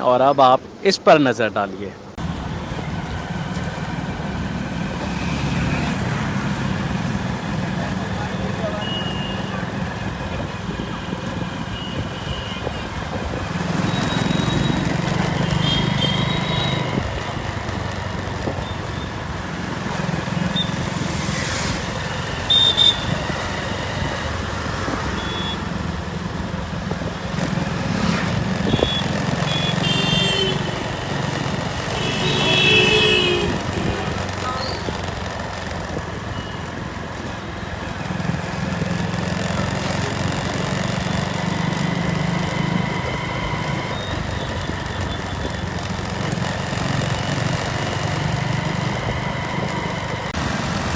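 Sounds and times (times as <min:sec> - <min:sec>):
motorcycles and cars passing: 0:02.2 - 0:50.9.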